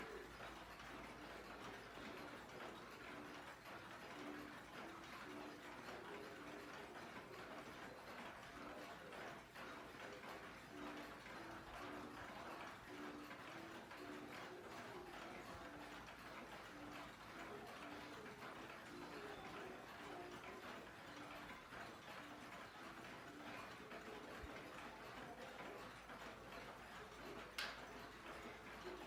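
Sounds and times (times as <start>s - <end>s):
pendulum clocks ticking: 0.0s - 29.0s.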